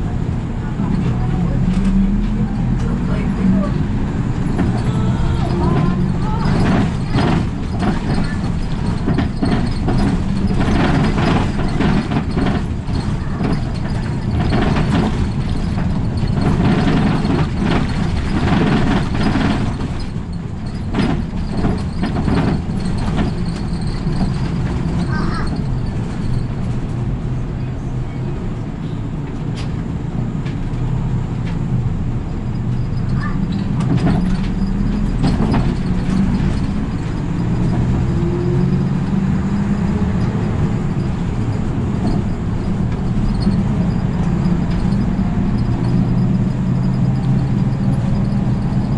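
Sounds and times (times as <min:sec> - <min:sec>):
bus engine running: 0:00.0 - 0:48.9
road and tyre noise: 0:00.0 - 0:48.9.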